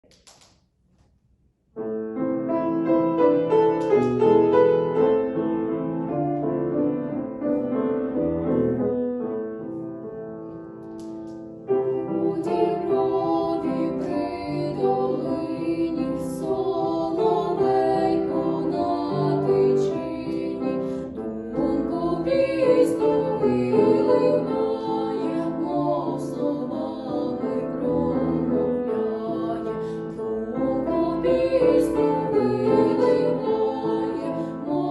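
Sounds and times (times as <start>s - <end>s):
piano-led music: 1.7s - 34.9s.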